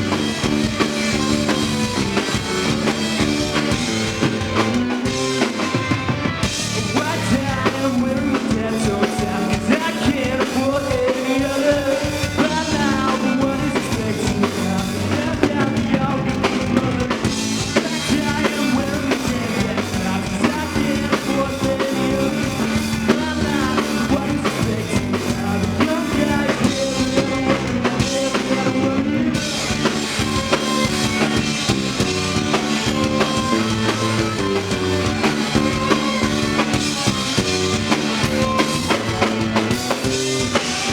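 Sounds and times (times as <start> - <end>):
bass drum: 0.0 - 5.5, 6.4 - 11.1, 12.2 - 40.9
live rock band playing: 0.0 - 40.9.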